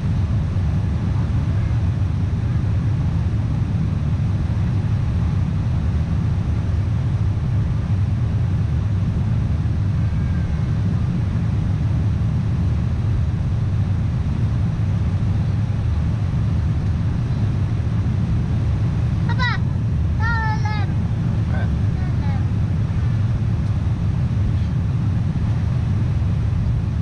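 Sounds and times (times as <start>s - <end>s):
jet engines rumbling: 0.0s - 27.0s
rushing airflow: 0.0s - 27.0s.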